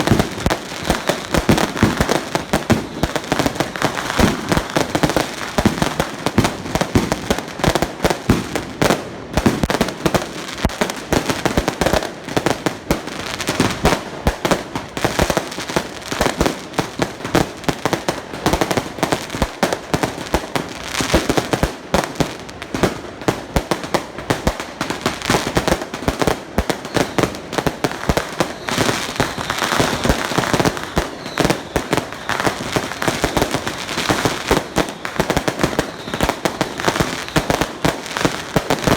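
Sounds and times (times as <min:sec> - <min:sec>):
firecrackers going off: 0:00.0 - 0:38.9.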